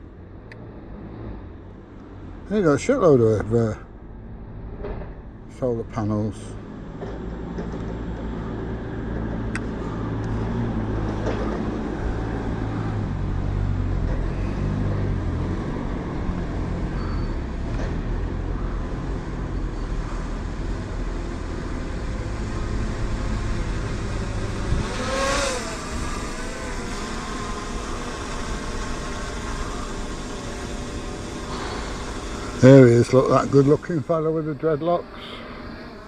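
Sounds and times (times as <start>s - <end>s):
drone propellers humming: 3.8s - 36.0s
rush with falling whine: 4.5s - 36.0s.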